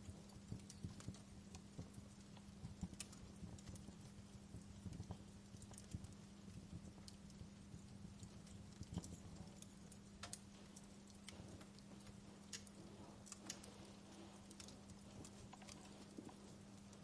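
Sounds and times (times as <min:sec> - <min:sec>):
faint steady hum: 0:00.0 - 0:17.0
wood fire crackling: 0:00.0 - 0:17.0.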